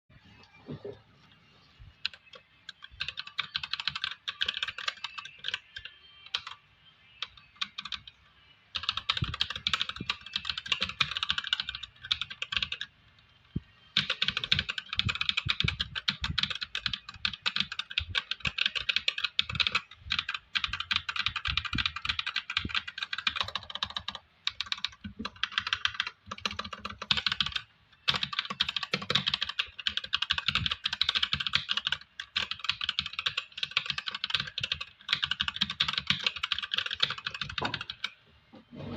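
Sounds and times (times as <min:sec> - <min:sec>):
mechanical keyboard typing: 0:02.0 - 0:06.6, 0:07.2 - 0:12.9, 0:13.9 - 0:38.2.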